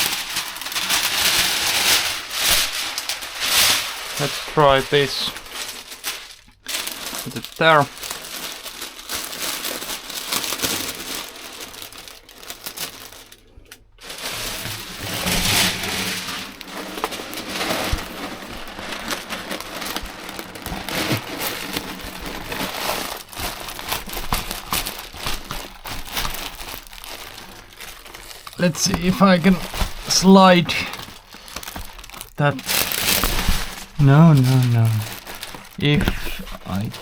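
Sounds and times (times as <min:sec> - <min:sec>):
insulation material rustling and crinkling: 0:00.0 - 0:37.0.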